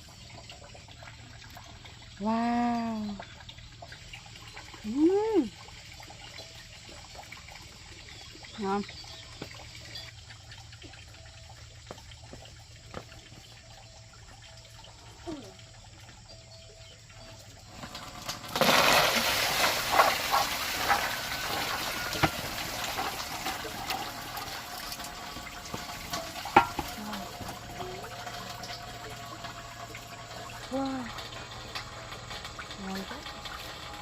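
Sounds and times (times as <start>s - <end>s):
water pouring out: 0.0s - 34.0s.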